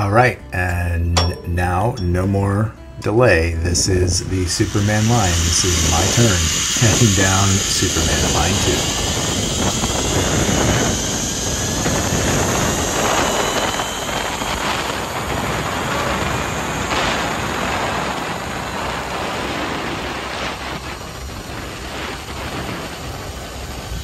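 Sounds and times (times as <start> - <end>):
wind rushing over microphone: 3.6 - 24.0
faint whine of pulleys on cable: 3.8 - 24.0.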